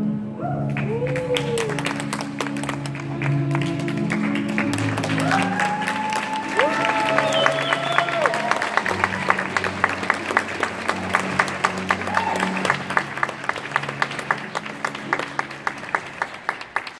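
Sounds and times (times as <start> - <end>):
waltz music: 0.0 - 16.9
people clapping: 0.7 - 16.9.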